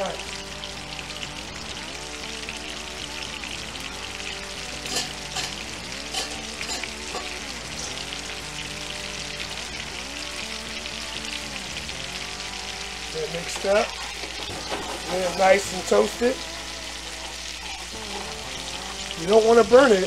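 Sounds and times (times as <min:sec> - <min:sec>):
garlic sizzling in oil: 0:00.0 - 0:20.0
oil popping: 0:00.3 - 0:19.6.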